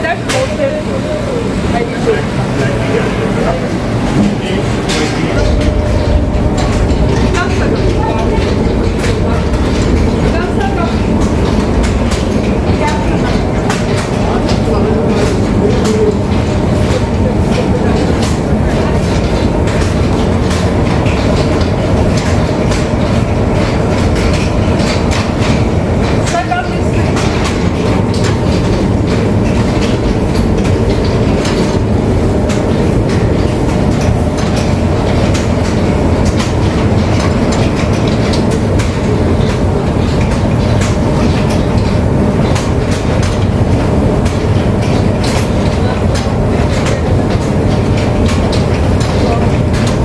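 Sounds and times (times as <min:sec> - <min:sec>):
machinery clattering: 0:00.0 - 0:50.0
machinery rumbling: 0:00.0 - 0:50.0
rattling clicks: 0:04.2 - 0:50.0.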